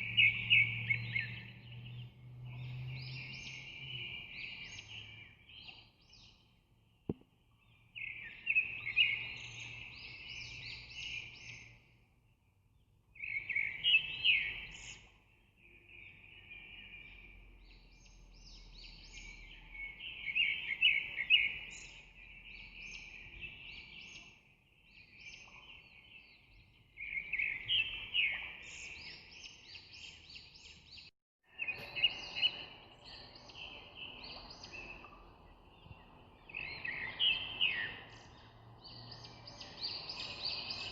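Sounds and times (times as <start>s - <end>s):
birds singing and chirping: 0.0s - 12.0s, 13.2s - 40.9s.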